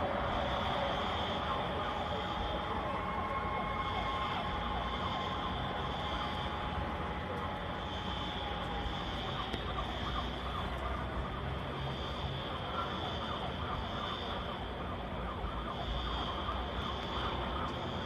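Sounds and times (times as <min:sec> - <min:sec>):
distant siren: 0:00.0 - 0:18.0
low rumble of street noise: 0:00.0 - 0:18.0.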